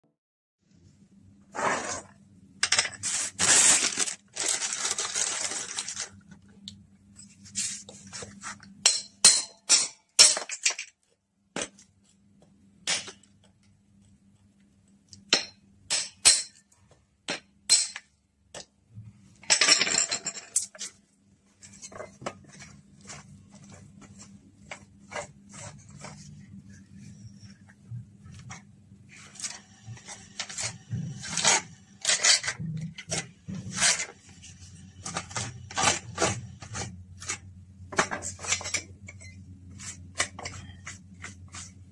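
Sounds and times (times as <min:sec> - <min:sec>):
faint steady hum: 0:00.6 - 0:41.9.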